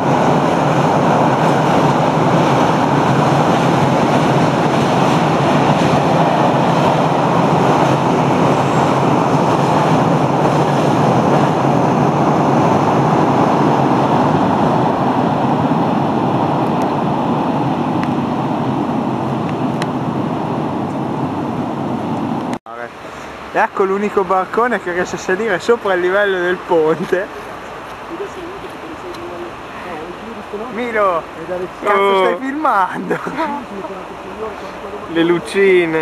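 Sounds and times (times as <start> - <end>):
river rushing: 0.0 - 36.0.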